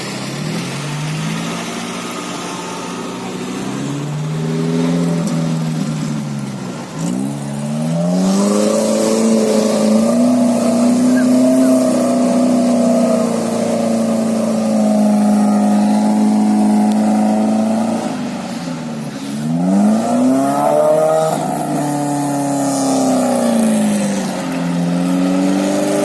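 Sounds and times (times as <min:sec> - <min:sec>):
van engine revving: 0:00.0 - 0:26.0.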